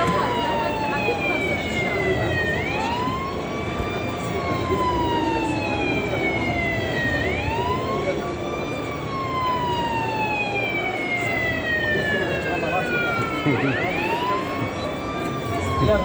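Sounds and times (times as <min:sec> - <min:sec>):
noisy background: 0:00.0 - 0:16.0
siren wailing: 0:00.0 - 0:16.0.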